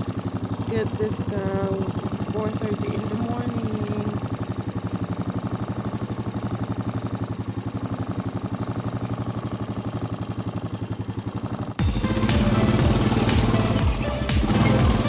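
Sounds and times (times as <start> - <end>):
vehicle engine puttering: 0.0 - 15.0.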